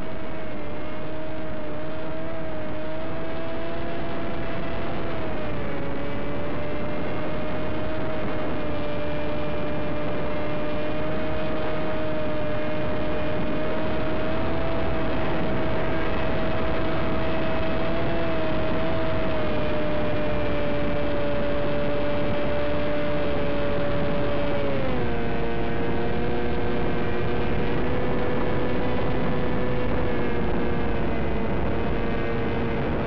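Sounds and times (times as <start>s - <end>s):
constant rushing noise: 0.0s - 33.0s.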